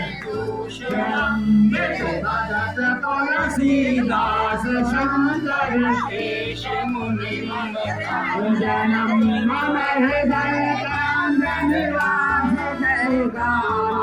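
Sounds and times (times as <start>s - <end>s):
man singing into a microphone: 0.0s - 14.0s
voices singing along: 0.0s - 14.0s.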